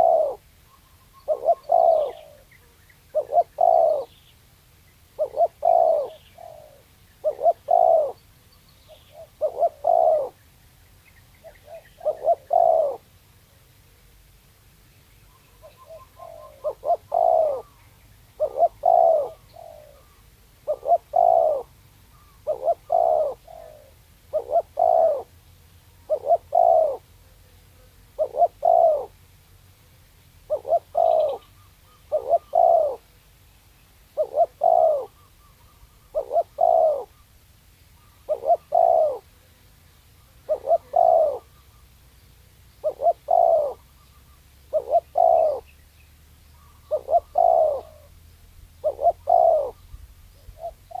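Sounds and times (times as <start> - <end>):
dove cooing: 0.0 - 4.3, 5.1 - 10.5, 11.4 - 13.1, 15.4 - 29.2, 30.4 - 33.2, 34.1 - 37.4, 38.0 - 39.6, 40.2 - 42.0, 42.6 - 45.8, 46.6 - 51.0.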